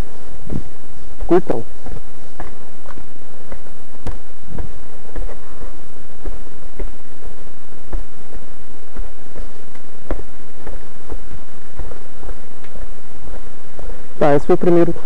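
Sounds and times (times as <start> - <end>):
footsteps on concrete: 0.0 - 15.0.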